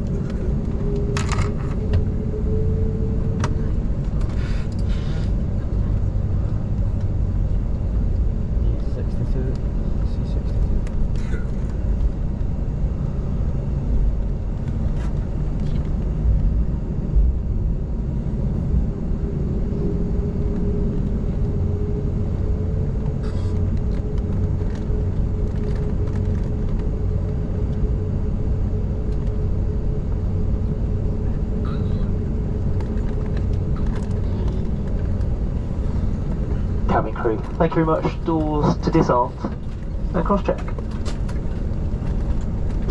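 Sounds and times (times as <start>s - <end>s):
low rumble of aircraft cabin: 0.0s - 42.9s
steady hum: 0.0s - 42.9s.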